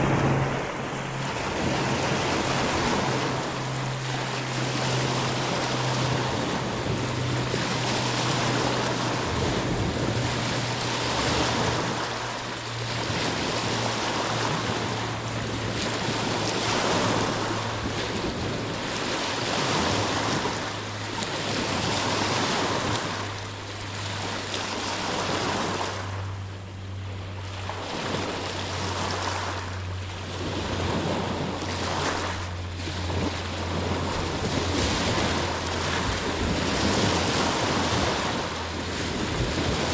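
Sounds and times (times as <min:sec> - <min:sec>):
steady low hum: 0:00.0 - 0:39.9
waves washing in: 0:00.0 - 0:39.9.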